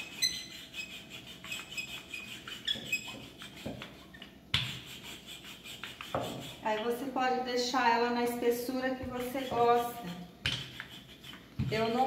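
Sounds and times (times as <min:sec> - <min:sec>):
rolling pin rubbing on dough: 0:00.0 - 0:07.1, 0:08.9 - 0:12.0.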